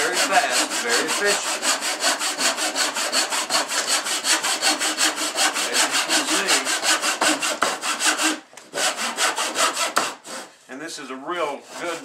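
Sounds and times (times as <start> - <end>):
back saw cutting wood: 0.0 - 10.5, 11.4 - 12.0.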